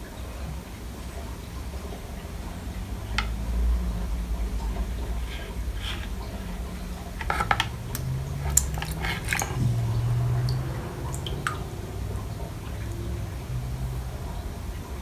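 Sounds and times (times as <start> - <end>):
low steady hum: 0.0 - 15.0
water splashing and dripping: 0.0 - 15.0.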